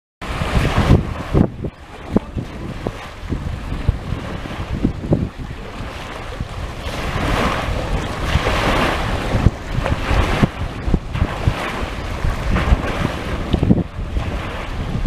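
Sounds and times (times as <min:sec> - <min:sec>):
small waves washing: 0:00.2 - 0:15.0
wind buffeting microphone: 0:00.2 - 0:15.0.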